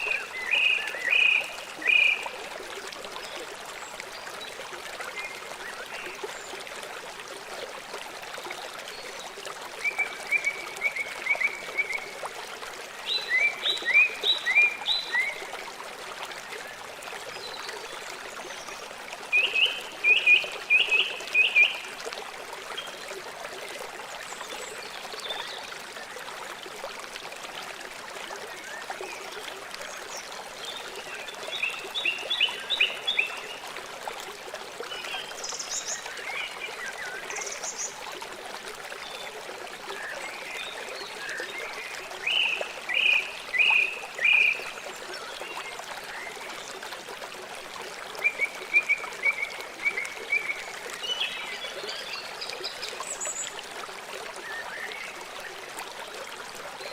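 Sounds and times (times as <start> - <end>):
river flowing: 0.0 - 56.9.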